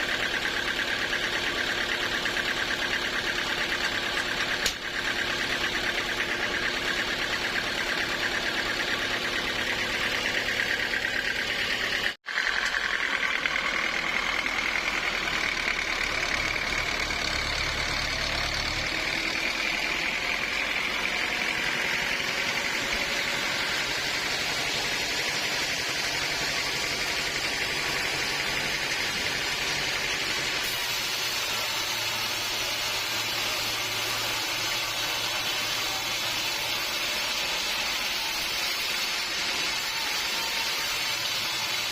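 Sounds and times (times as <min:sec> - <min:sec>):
bandsaw mill engine drone: 0:00.0 - 0:41.9
high blade whine: 0:00.0 - 0:41.9.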